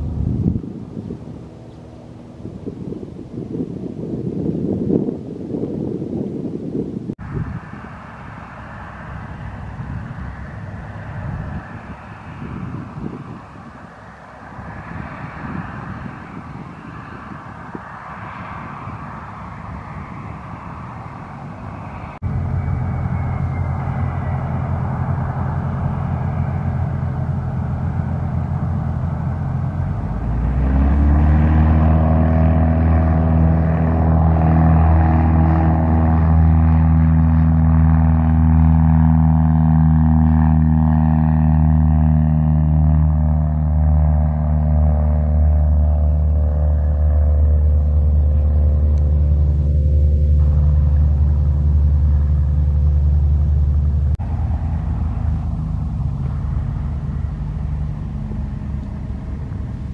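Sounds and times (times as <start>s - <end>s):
jet engines whooshing: 0.0s - 5.6s, 6.9s - 59.9s
propeller plane engine droning: 0.0s - 59.9s.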